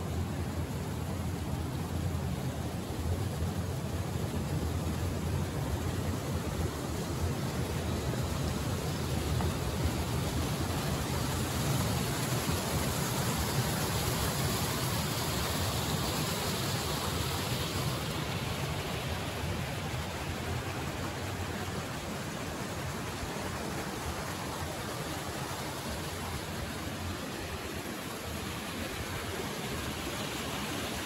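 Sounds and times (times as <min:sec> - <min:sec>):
rushing mountain stream: 0:00.0 - 0:31.0.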